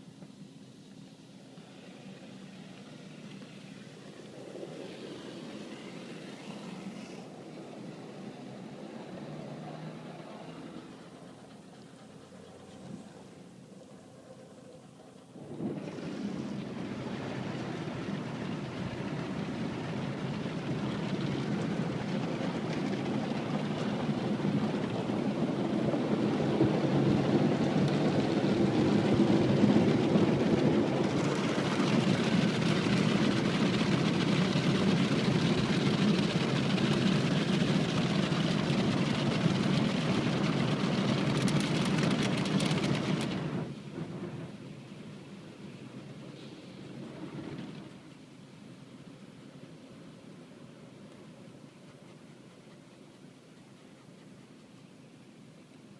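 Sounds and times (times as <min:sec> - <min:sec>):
water jets spraying car: 0:00.0 - 0:50.5.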